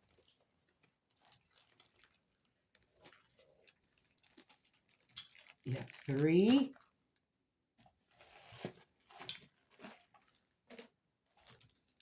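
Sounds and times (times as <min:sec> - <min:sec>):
plastic bags rustling: 0:01.1 - 0:06.9, 0:08.1 - 0:12.0.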